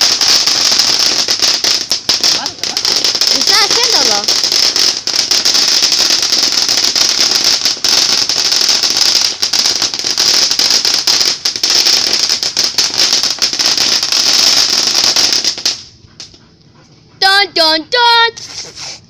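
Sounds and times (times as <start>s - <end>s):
firework hissing and crackling: 0.0s - 16.4s, 17.2s - 19.0s.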